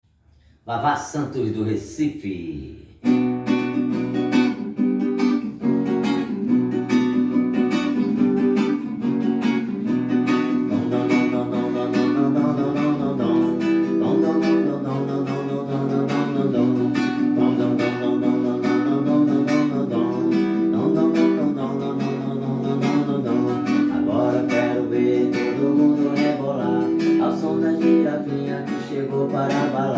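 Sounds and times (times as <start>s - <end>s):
strummed guitar: 3.0s - 29.9s.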